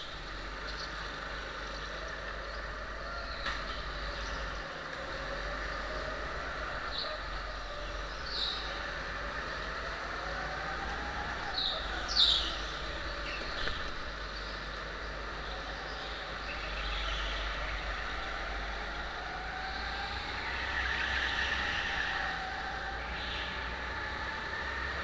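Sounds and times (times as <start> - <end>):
go-kart engine: 0.0 - 25.0.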